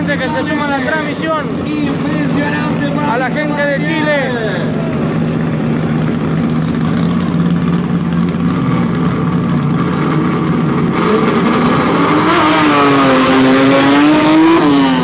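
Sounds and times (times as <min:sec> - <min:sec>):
drag racing car engine: 0:00.0 - 0:15.0.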